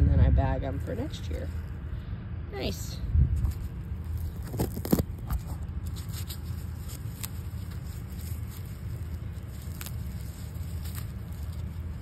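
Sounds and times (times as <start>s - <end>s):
steady low rumble: 0.0s - 12.0s
dry sponge fibres crackling: 0.2s - 1.9s, 2.5s - 12.0s.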